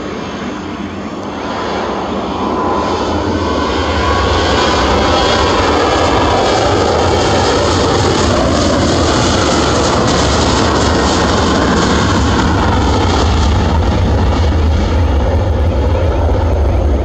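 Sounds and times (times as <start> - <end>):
jet airliner taking off: 0.0 - 17.0.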